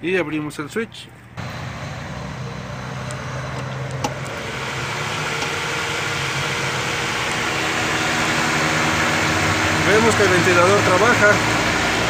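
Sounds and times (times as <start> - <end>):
radiator cooling fan running: 1.4 - 12.0.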